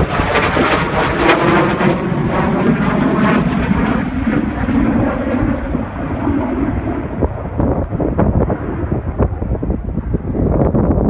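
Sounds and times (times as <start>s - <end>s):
fighter jet roaring overhead: 0.0s - 11.0s.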